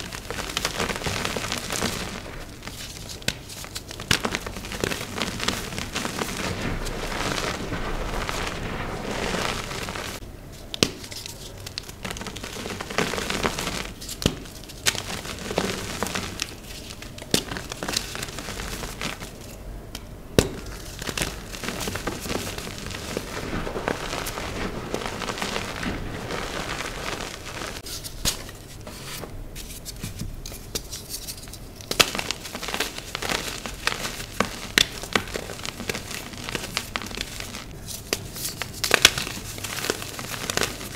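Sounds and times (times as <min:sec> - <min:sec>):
chalk block crunching and crackling: 0:00.0 - 0:40.9.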